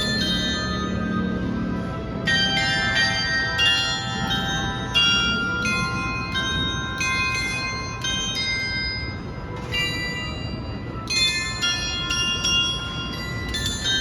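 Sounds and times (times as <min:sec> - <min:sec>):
chime bells playing slow melody: 0:00.0 - 0:14.0.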